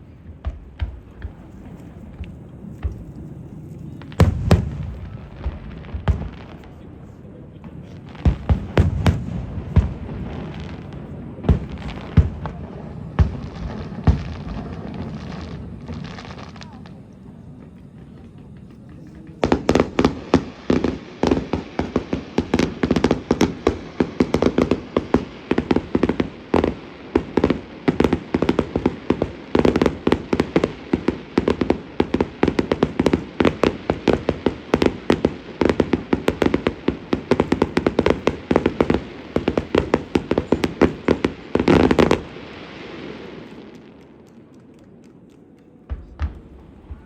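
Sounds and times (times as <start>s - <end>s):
firework bursts: 0.0s - 47.0s.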